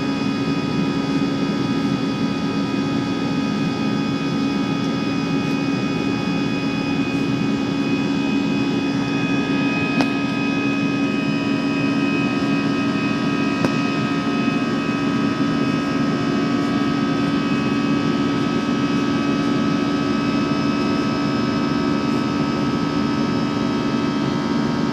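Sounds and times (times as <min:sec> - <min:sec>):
high whining tones: 0:00.0 - 0:24.9
jet engine and airflow in cabin: 0:00.0 - 0:24.9.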